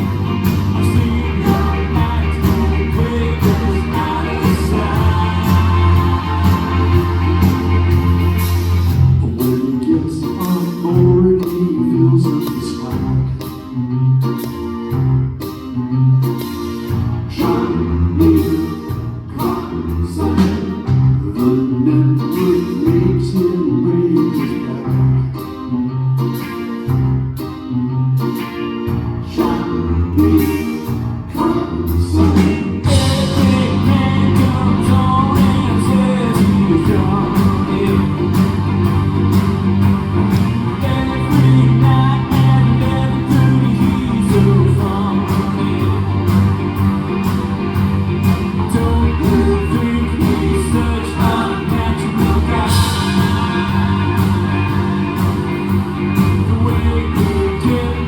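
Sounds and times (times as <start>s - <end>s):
person singing: 0.0s - 13.6s, 17.3s - 25.6s, 29.2s - 47.5s, 48.2s - 58.0s
guitar: 0.0s - 58.0s
live rock band playing: 0.0s - 58.0s.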